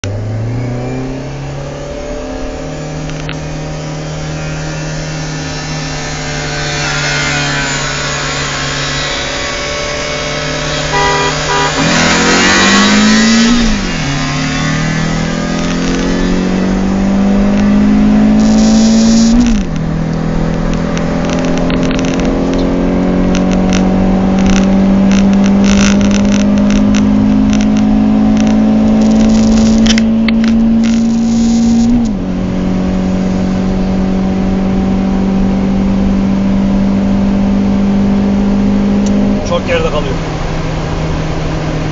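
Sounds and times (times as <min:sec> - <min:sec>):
car engine accelerating: 0:00.0 - 0:41.9
wind and road noise: 0:00.0 - 0:41.9.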